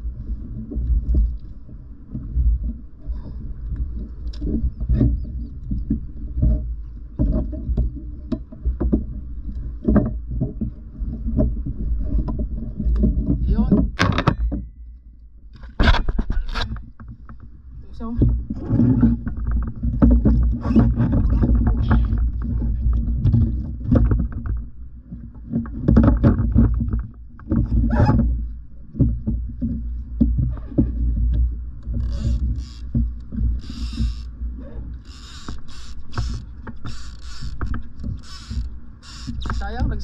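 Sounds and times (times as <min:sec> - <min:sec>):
water lapping at kayak: 0:00.0 - 0:14.0, 0:15.1 - 0:40.0
wind rumbling on microphone: 0:00.0 - 0:40.0.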